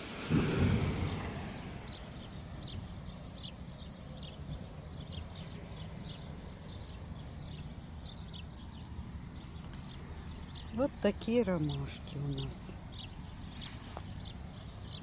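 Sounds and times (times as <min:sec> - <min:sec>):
steady low rumble: 0:00.0 - 0:13.6
small bird chirping: 0:01.0 - 0:15.0.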